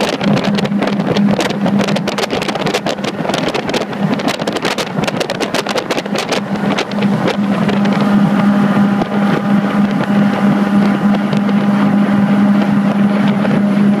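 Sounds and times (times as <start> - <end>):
powerboat engines droning: 0.0 - 14.0
rushing water and spray: 0.0 - 14.0
wind on microphone: 0.0 - 14.0.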